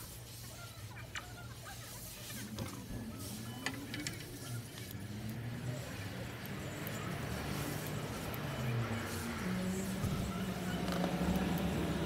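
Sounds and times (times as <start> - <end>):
low mechanical hum: 0.0 - 12.0
passing street traffic: 0.0 - 12.0.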